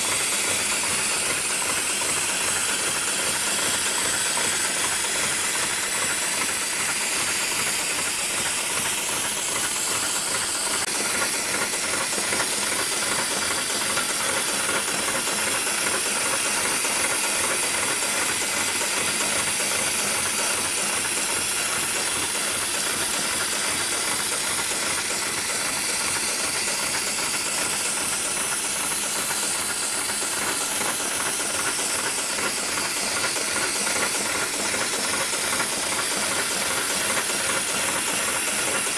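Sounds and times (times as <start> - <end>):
industrial sewing machine running: 0.0 - 38.9.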